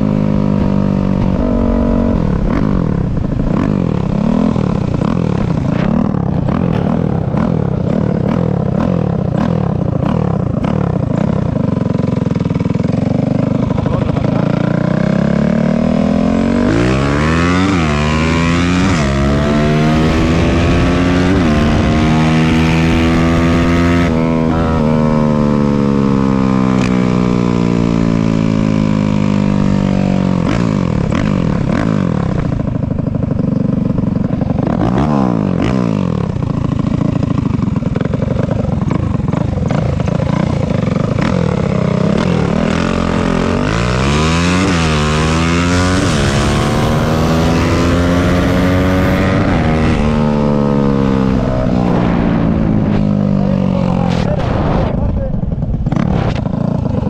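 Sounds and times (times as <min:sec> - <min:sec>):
dirt bike engine accelerating: 0:00.0 - 0:57.0
second engine: 0:00.0 - 0:57.0.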